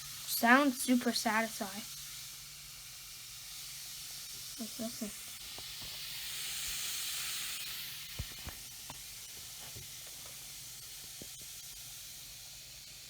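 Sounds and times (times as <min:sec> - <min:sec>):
fizzing bubbles hissing: 0:00.0 - 0:13.0.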